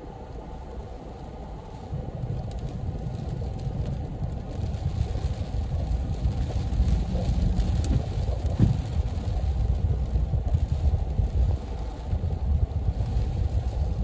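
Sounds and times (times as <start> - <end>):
rain on a car: 0.0 - 14.0
traffic on wet road: 0.0 - 14.0.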